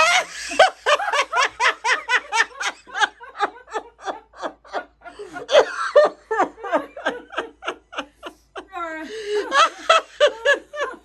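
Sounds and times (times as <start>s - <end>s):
person laughing hard: 0.0s - 11.0s.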